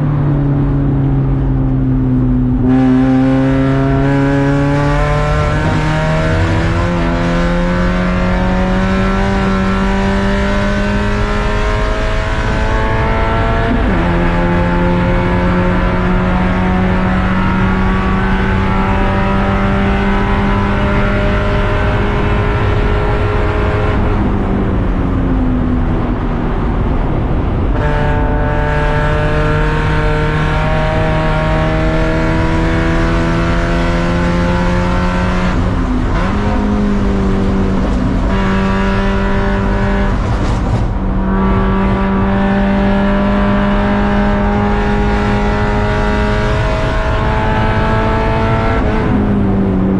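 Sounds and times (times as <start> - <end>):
race car engine at high revs: 0.0 - 49.9.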